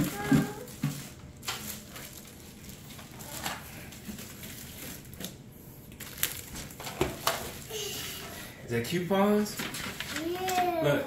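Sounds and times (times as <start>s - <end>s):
plastic wrap and paper crinkling: 0.0s - 8.3s, 9.3s - 10.9s.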